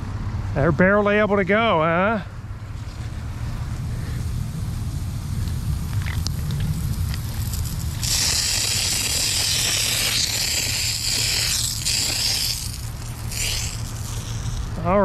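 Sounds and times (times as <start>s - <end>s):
sprinkler spraying water: 2.9s - 15.0s.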